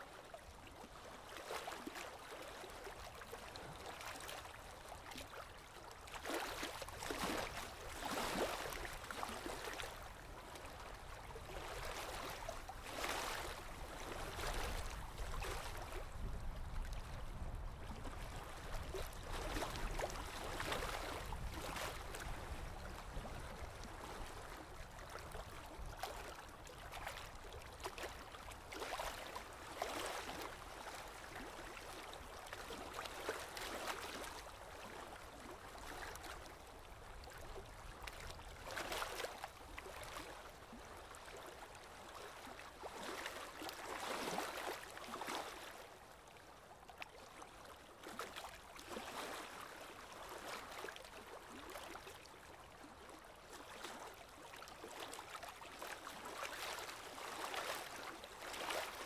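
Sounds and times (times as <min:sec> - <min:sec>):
water lapping at gravel shore: 0:00.7 - 0:45.8, 0:48.1 - 0:59.0.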